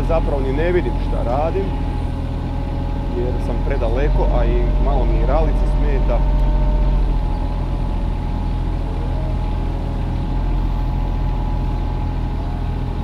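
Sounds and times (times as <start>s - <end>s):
excavator diesel engine running: 0.0s - 13.0s
faint steady whine: 0.0s - 13.0s.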